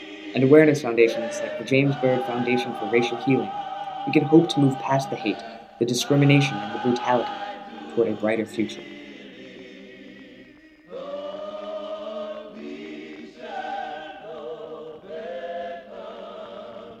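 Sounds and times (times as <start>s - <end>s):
choir singing long notes: 0.0s - 17.0s.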